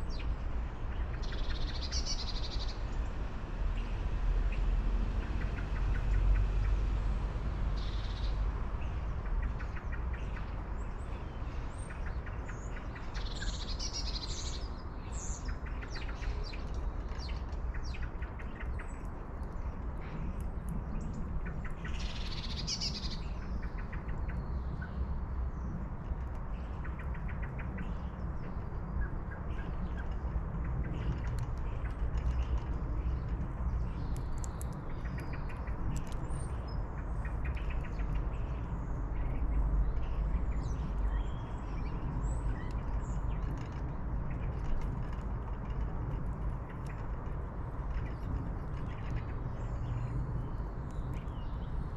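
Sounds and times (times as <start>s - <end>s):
small birds chirping: 0.0s - 3.1s, 7.8s - 51.9s.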